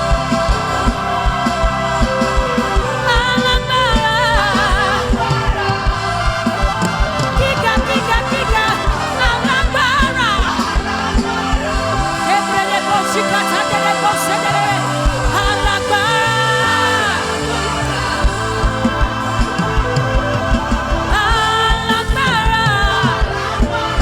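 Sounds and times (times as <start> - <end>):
band playing: 0.0 - 24.0
person singing with vibrato: 0.0 - 24.0.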